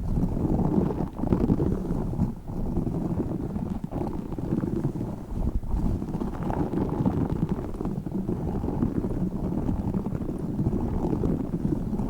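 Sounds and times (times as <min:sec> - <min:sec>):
squishy ball rubbing on microphone: 0:00.0 - 0:12.0.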